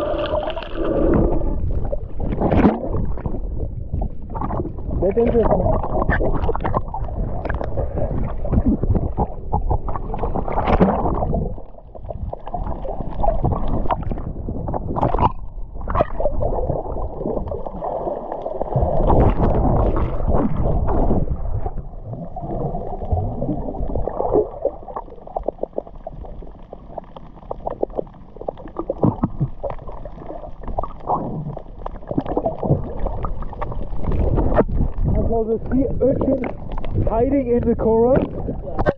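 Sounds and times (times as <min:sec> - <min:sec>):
bubbles crackling on housing: 0:00.0 - 0:38.9
water gurgling underwater: 0:00.0 - 0:38.9.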